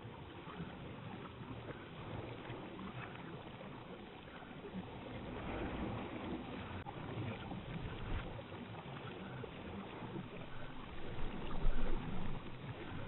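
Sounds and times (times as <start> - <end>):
water splashing and lapping: 0.0 - 13.0.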